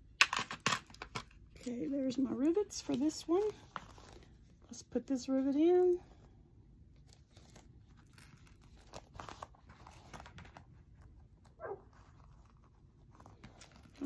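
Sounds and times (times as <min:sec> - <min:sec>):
vinyl pouch rustling and crinkling: 0:00.6 - 0:14.0.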